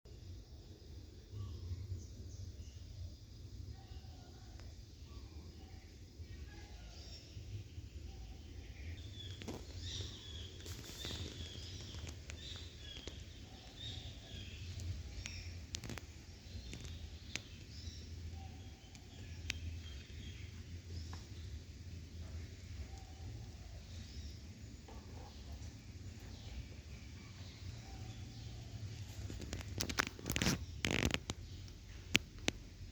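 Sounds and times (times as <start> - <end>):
faint high chirps: 0.1 - 29.6.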